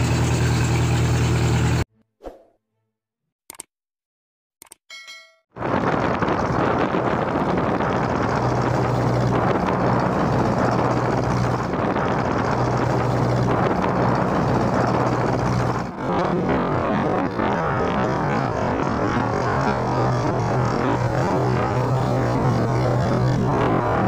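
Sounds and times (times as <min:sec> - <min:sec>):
boat diesel engine humming: 0:00.0 - 0:01.8, 0:05.6 - 0:24.0.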